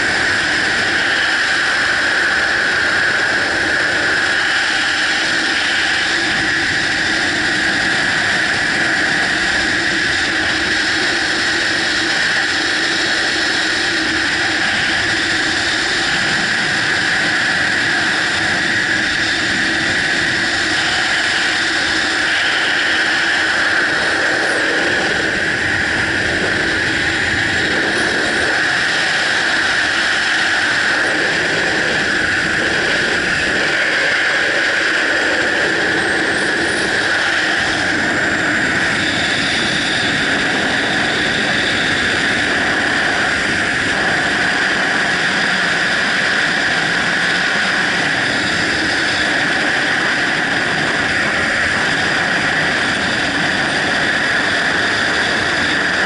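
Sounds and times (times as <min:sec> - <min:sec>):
freefall wind rushing: 0:00.0 - 0:56.0.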